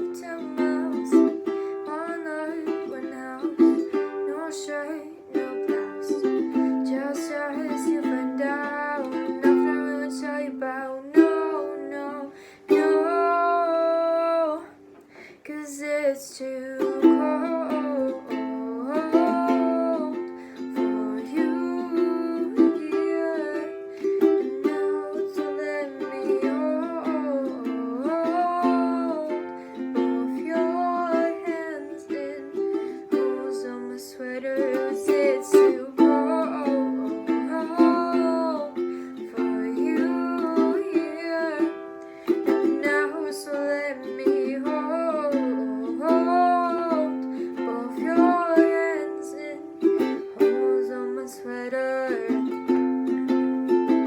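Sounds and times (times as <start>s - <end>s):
ukulele strumming chords: 0.0s - 15.2s, 16.4s - 54.0s
person singing wordless melody: 0.0s - 54.0s.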